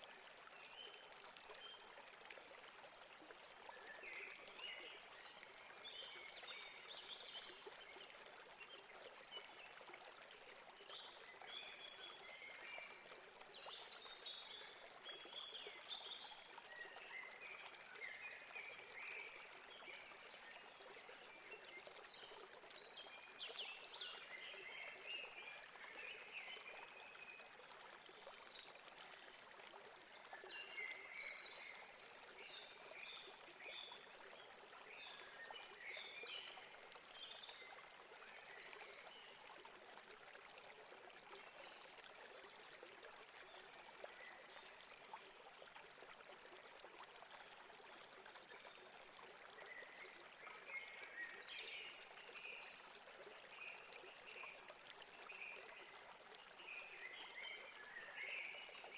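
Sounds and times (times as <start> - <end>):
stream running water: 0.0 - 58.9.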